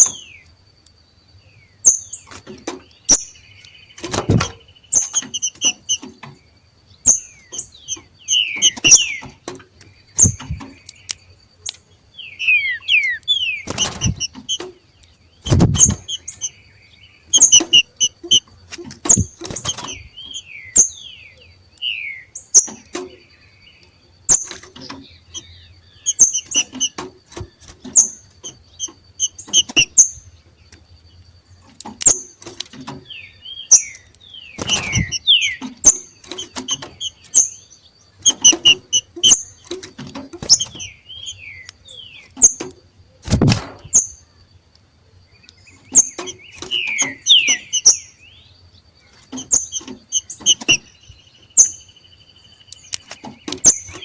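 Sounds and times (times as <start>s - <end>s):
birds calling sharp chips: 0.0s - 54.0s.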